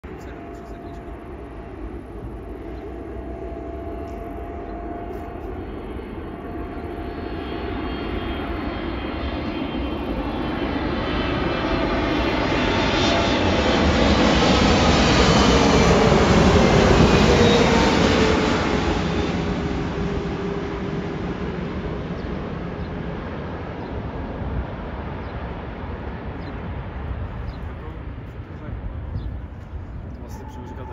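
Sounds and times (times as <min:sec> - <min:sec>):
jet airliner passing: 0:00.0 - 0:30.9
jet engine whine: 0:00.0 - 0:30.9.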